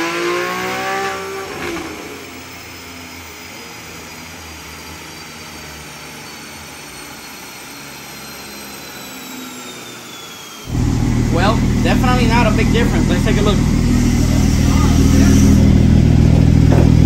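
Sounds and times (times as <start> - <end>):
engine running low: 0.0 - 17.0
high whine falling in pitch: 1.2 - 17.0.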